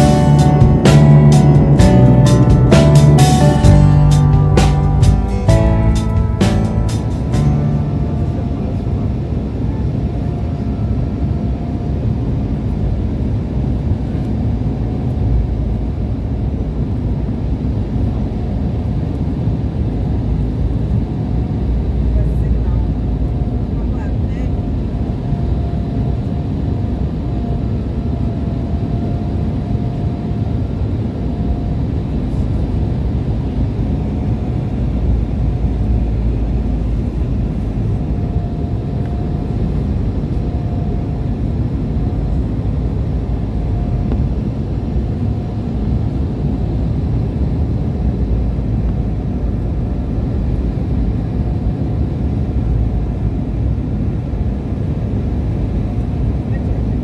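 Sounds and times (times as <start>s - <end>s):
faint steady whine: 0.0s - 57.0s
jet engines and airflow rumble: 0.0s - 57.0s.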